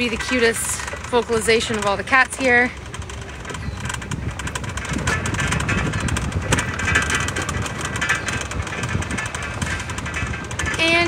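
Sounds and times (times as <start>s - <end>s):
rattles and knocks: 0.0s - 11.0s
vehicle motor rumbling: 0.0s - 11.0s.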